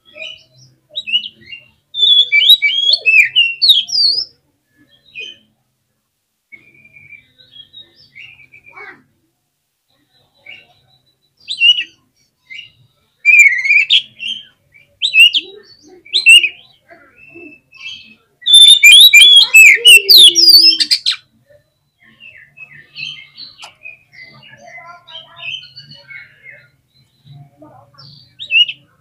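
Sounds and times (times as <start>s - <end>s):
bird singing whistled phrases: 0.1s - 4.3s, 6.5s - 8.8s, 10.2s - 21.3s, 22.0s - 28.9s.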